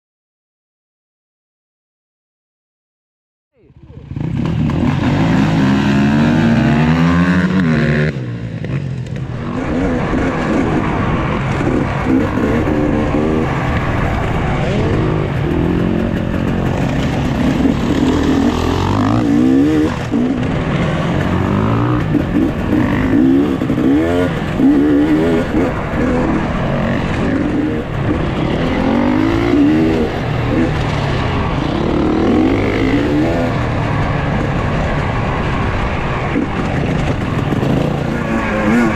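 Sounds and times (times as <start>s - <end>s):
dirt bike engines revving: 3.6s - 38.9s.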